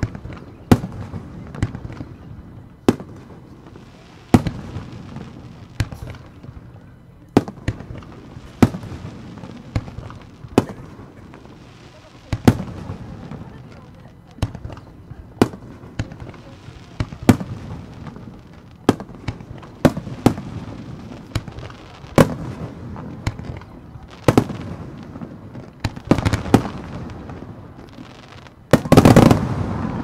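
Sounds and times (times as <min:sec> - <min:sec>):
firework cracks: 0:00.0 - 0:30.0.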